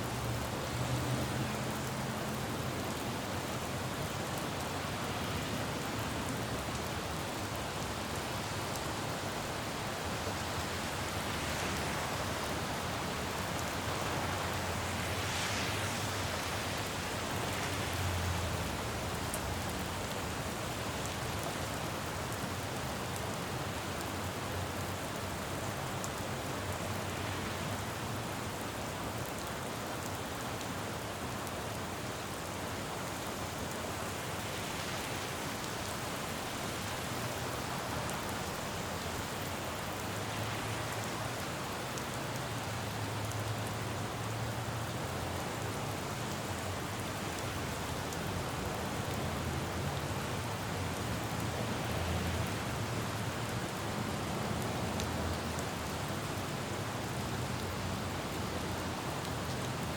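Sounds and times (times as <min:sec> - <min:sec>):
rain falling on road: 0:00.0 - 0:59.9
traffic rumble: 0:00.1 - 0:23.6, 0:33.0 - 0:59.8.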